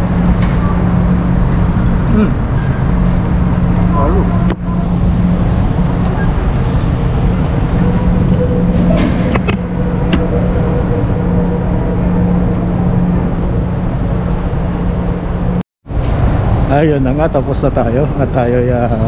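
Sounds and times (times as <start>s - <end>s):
vehicle hum and rumble: 0.0s - 19.0s.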